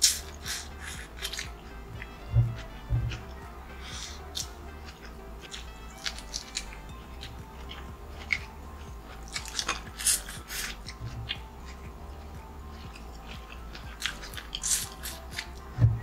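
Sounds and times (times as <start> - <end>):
person crunching crisp food: 0.0 - 2.1, 3.9 - 11.8, 12.7 - 15.6.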